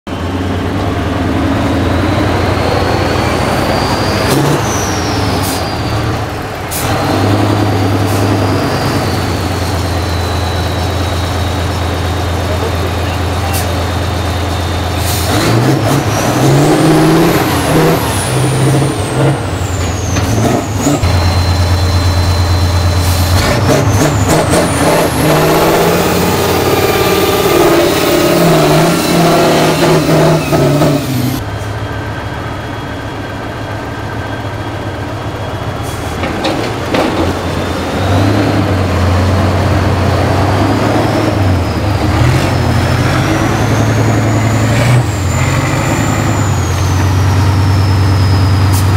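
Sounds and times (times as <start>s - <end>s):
diesel engine revving hard: 0.1s - 31.4s, 35.9s - 48.9s.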